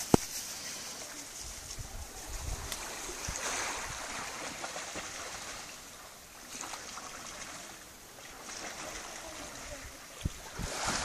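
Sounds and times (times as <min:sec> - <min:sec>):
waves washing onto pebbles: 0:00.0 - 0:11.0.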